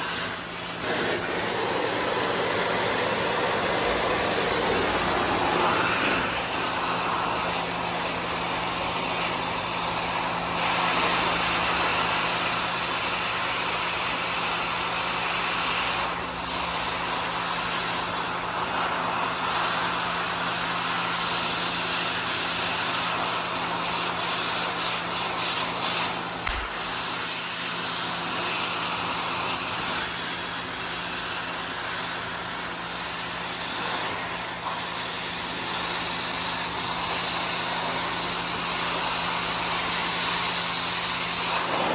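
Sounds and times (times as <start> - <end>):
cutting torch hissing: 0.0 - 41.9.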